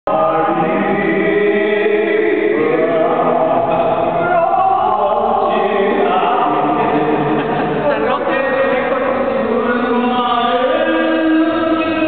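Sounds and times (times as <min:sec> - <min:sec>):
group singing held notes: 0:00.1 - 0:12.0.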